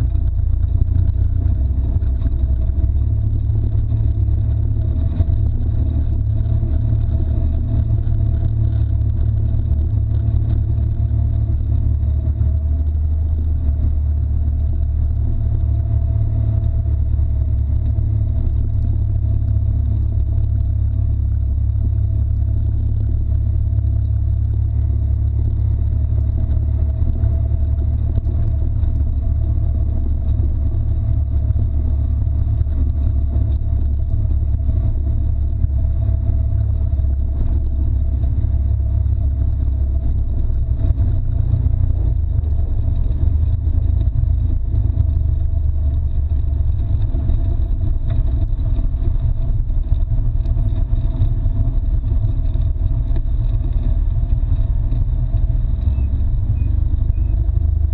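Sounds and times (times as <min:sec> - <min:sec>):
off-road vehicle engine rumbling: 0:00.0 - 0:57.9.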